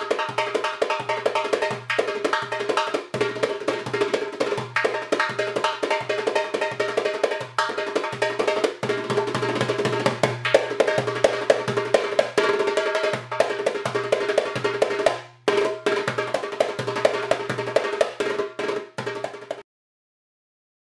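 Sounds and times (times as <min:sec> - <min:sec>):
instrumental music with percussion: 0:00.0 - 0:19.6.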